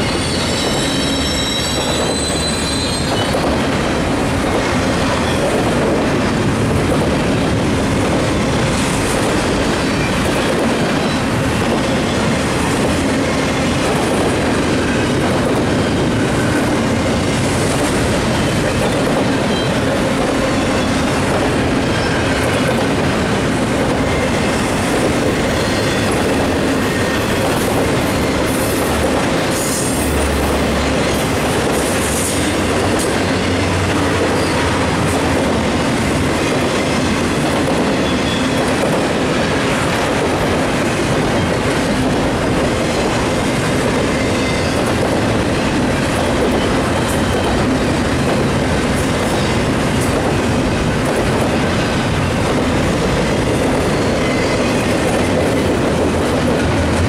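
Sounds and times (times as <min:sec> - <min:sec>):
train wheels screeching: 0:00.0 - 0:03.8, 0:08.7 - 0:23.2, 0:23.8 - 0:42.0, 0:42.8 - 0:50.4, 0:51.4 - 0:57.0
freight train wheels rumbling: 0:00.0 - 0:57.0.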